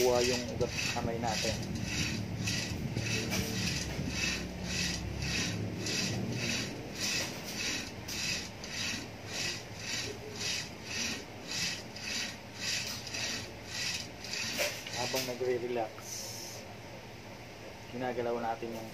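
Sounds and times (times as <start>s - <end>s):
rope rasping over a pulley: 0.0s - 15.6s.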